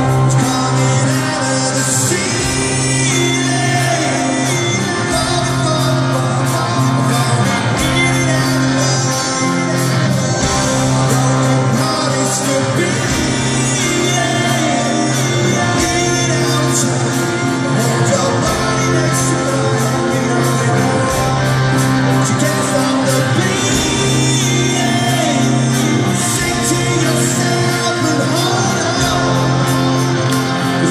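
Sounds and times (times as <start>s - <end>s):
live rock band: 0.0s - 30.9s
man singing lead vocal: 0.0s - 30.9s.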